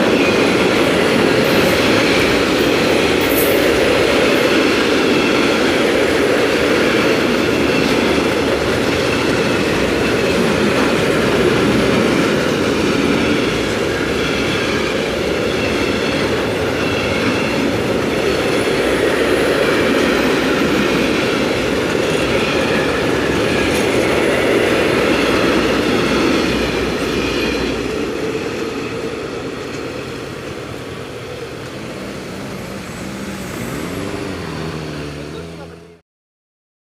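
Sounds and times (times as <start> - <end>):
train wheel squeal: 0.0 - 35.1
freight train wheels rumbling: 0.0 - 36.0.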